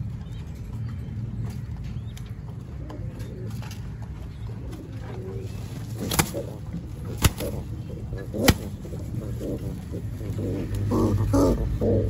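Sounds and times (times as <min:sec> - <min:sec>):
pigeons cooing: 0:00.0 - 0:12.0
steady low hum: 0:00.0 - 0:12.0.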